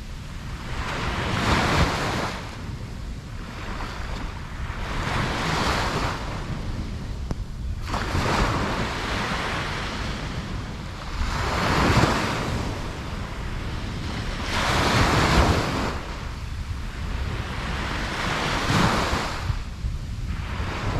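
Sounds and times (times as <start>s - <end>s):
ocean waves breaking on beach: 0.0s - 20.9s
wind rumble on microphone: 0.0s - 20.9s.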